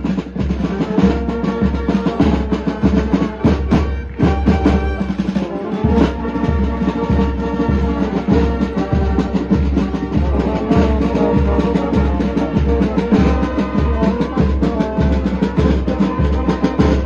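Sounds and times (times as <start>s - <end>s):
music with drums and bass beat: 0.0s - 17.0s.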